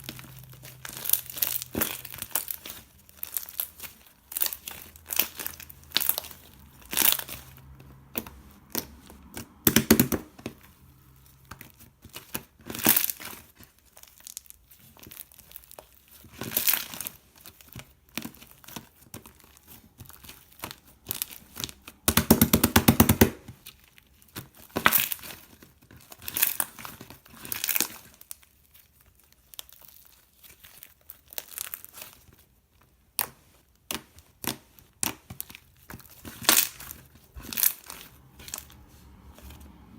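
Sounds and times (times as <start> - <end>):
crinkling and rustling: 0.0 - 39.9.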